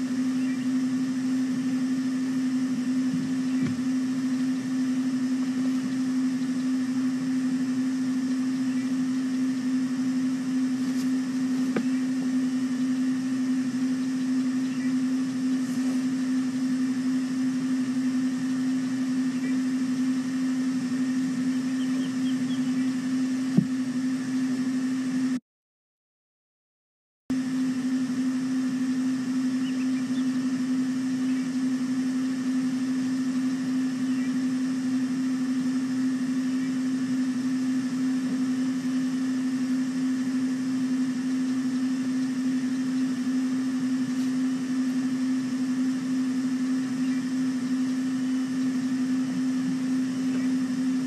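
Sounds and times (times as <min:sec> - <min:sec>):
steady low hum: 0:00.0 - 0:25.4, 0:27.3 - 0:51.0.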